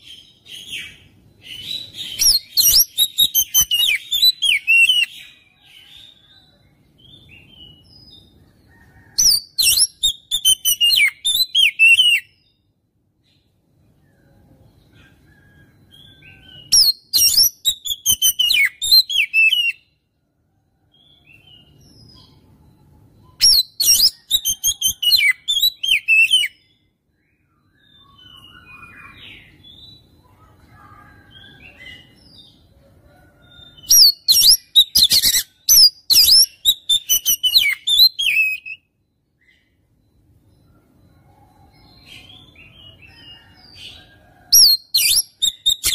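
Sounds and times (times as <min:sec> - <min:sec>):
bird singing harsh song: 0:00.0 - 0:20.0, 0:20.9 - 0:32.7, 0:33.6 - 0:40.8, 0:41.9 - 0:45.9.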